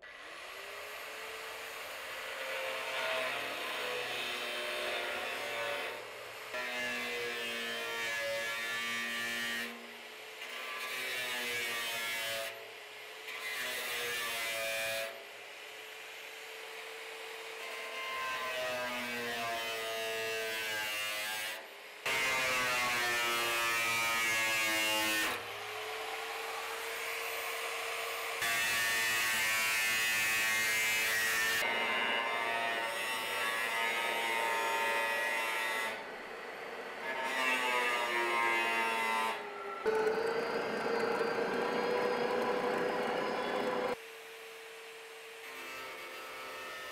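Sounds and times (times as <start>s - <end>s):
angle grinder cutting metal: 0.2s - 12.6s, 13.2s - 15.2s, 16.1s - 44.0s.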